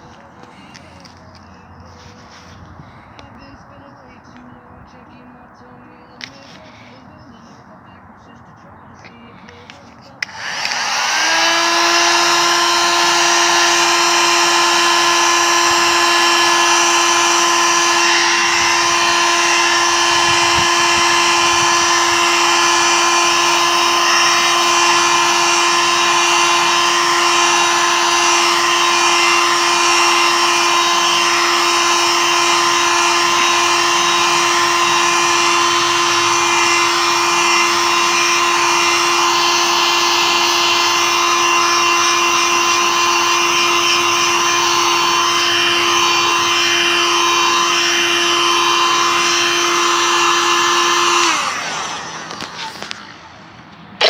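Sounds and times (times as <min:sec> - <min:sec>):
electric power tool motor: 0:09.7 - 0:53.6.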